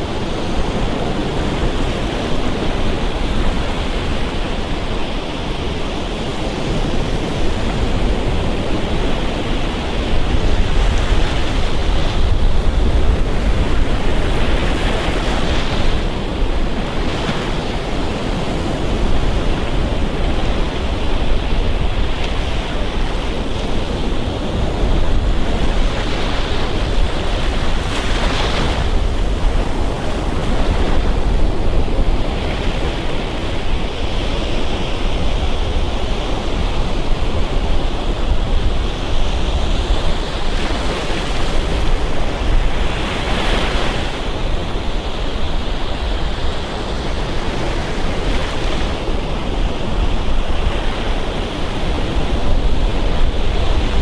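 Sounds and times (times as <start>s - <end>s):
surf breaking on beach: 0.0s - 54.0s
wind rumble on microphone: 0.0s - 54.0s.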